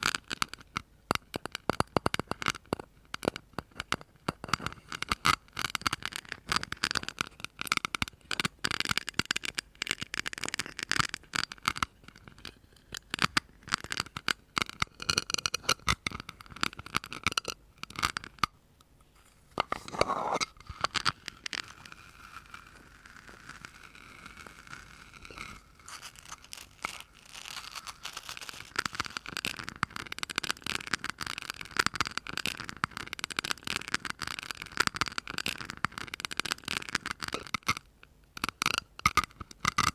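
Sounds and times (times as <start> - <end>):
tapping and scratching: 0.0 - 39.9.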